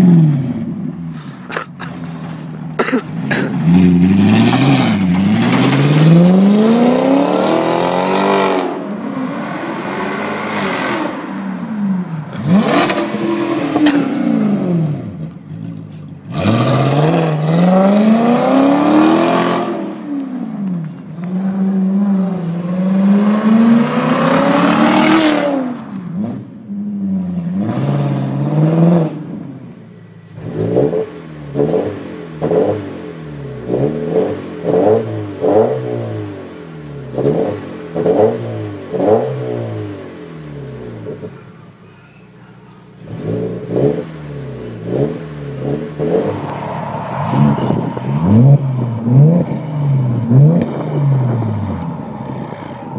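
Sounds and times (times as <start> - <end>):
car exhaust revving: 0.0 - 26.8, 30.1 - 41.4, 42.8 - 52.9.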